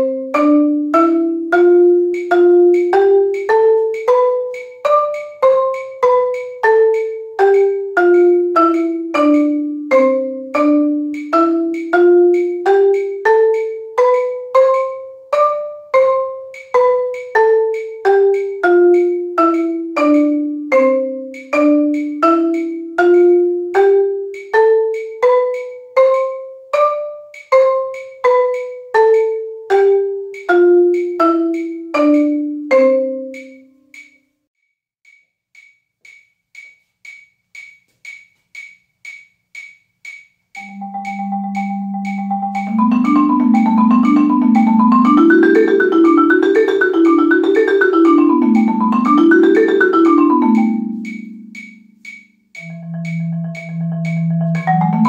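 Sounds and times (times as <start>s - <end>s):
marimba played with mallets: 0.0s - 34.2s, 40.6s - 55.0s
faint steady ticking: 0.1s - 34.2s, 35.1s - 55.0s.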